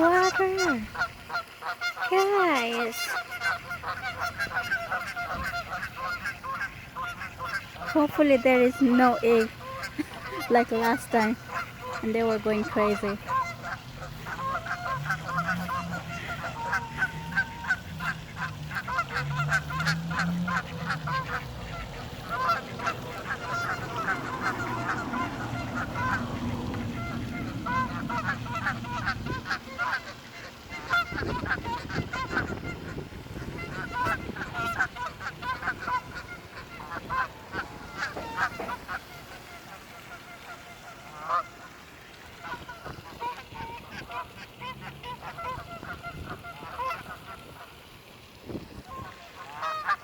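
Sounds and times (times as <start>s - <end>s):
geese honking: 0.0s - 47.8s, 48.8s - 50.0s.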